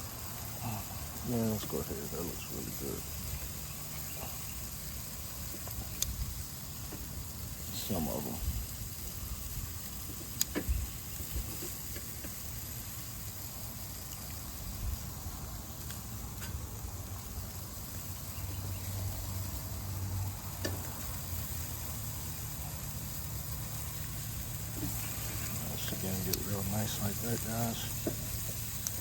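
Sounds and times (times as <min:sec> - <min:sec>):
meat sizzling on grill: 0:00.0 - 0:29.0.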